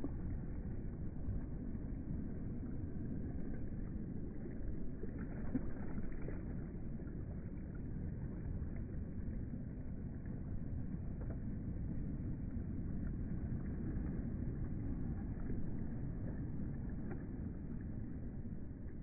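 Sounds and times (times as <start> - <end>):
small waves sloshing: 0.0 - 19.0
faint splashy ticks: 3.6 - 19.0.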